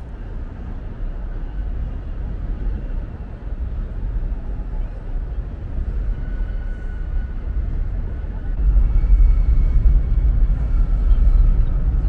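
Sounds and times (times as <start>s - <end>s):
loud low outdoor rumble: 0.0s - 12.0s.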